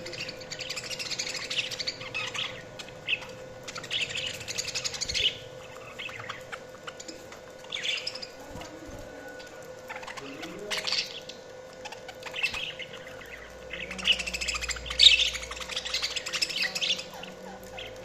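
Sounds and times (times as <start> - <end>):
budgerigars chirping and chattering: 0.0 - 18.0.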